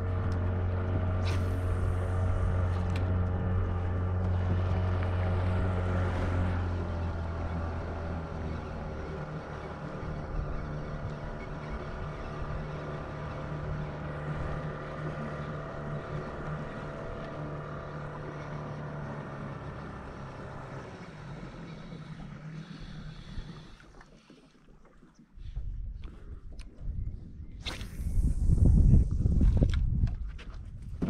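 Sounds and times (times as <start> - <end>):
motorboat engine running: 0.0 - 31.0.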